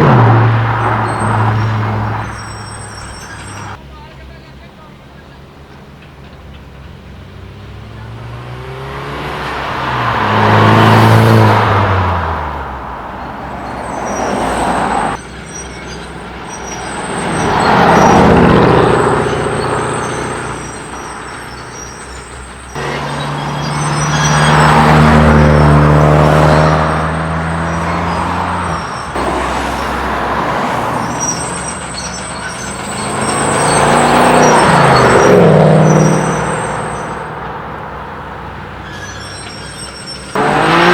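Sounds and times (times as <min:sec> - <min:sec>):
cars accelerating past: 0:00.0 - 0:03.8, 0:06.8 - 0:39.6, 0:40.2 - 0:40.9.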